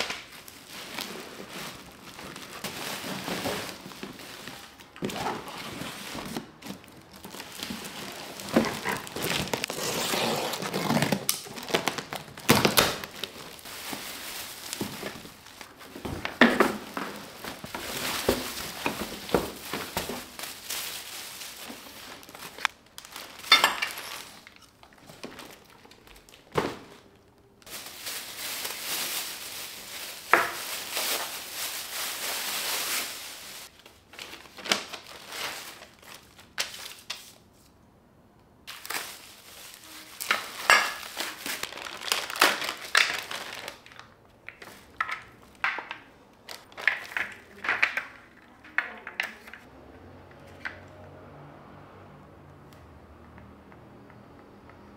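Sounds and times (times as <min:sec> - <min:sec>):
plastic wrapping crinkling: 0:00.0 - 0:37.4, 0:38.7 - 0:49.7.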